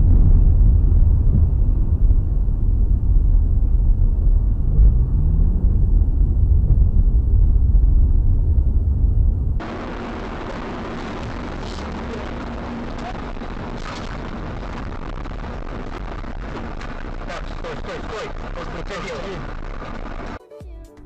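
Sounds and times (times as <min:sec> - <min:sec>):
road noise: 0:00.0 - 0:20.4
vehicle engine rumble: 0:00.0 - 0:20.4.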